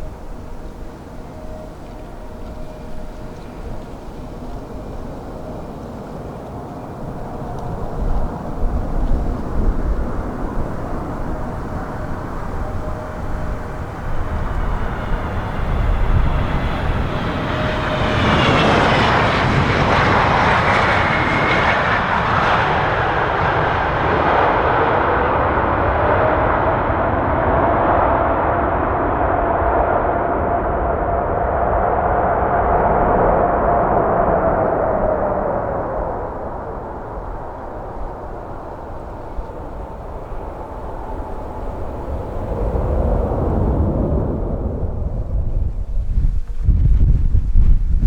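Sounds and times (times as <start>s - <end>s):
jet airliner passing close: 0.0s - 48.0s
wind buffeting microphone: 0.0s - 48.0s.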